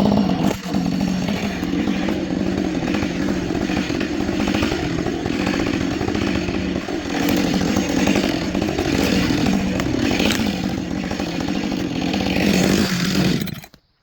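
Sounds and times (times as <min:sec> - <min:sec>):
chainsaw running at high revs: 0:00.0 - 0:13.8.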